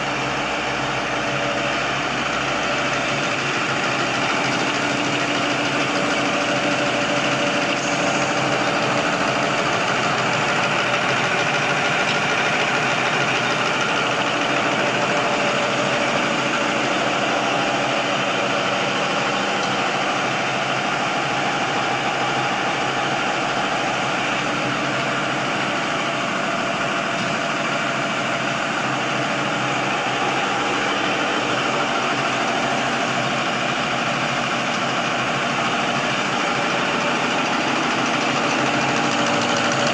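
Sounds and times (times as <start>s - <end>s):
tissue folding machine running: 0.0s - 39.9s.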